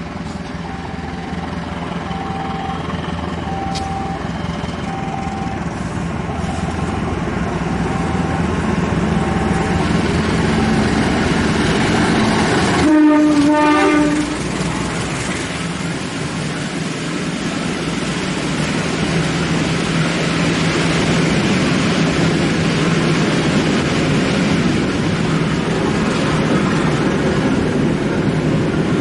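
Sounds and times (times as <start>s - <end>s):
low engine drone: 0.0s - 29.0s
train wheels rumbling on rails: 0.0s - 29.0s.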